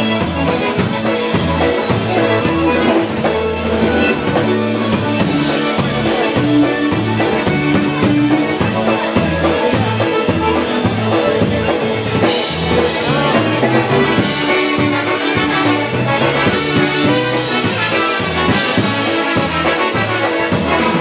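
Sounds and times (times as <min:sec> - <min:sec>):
steady bass beat: 0:00.0 - 0:17.4
polka band playing: 0:00.0 - 0:21.0
trumpets: 0:00.0 - 0:21.0.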